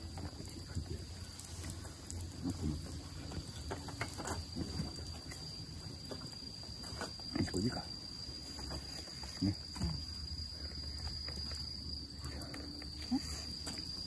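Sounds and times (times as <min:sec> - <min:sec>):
high insect trill: 0:00.0 - 0:14.0
wood fire crackling: 0:00.0 - 0:14.0.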